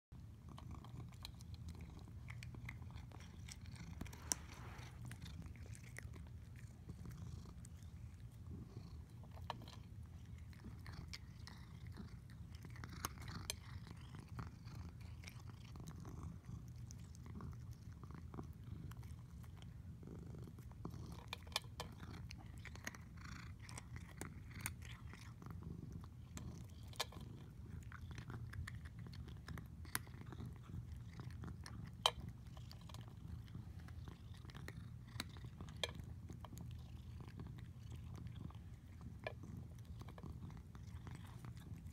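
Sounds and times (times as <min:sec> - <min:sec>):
cat crunching kibble: 0:00.2 - 0:41.9
cat purring: 0:00.2 - 0:41.9.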